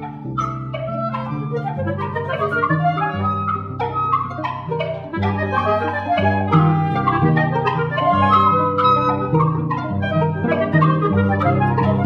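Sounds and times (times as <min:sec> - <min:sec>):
clarinet and flute: 0:00.0 - 0:12.0.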